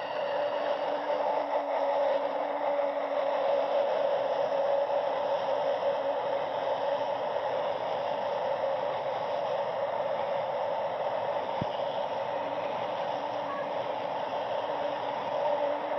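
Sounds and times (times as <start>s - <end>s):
high-speed train rushing past: 0.0s - 15.9s.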